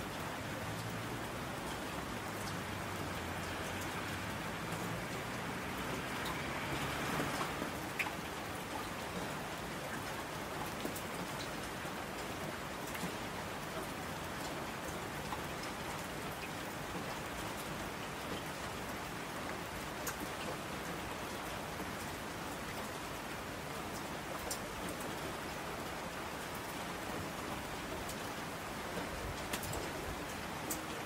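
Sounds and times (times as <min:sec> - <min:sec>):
steady rain hiss: 0:00.0 - 0:31.0
rain drop ticks: 0:00.1 - 0:18.8, 0:19.5 - 0:22.9, 0:23.9 - 0:25.3, 0:27.5 - 0:31.0.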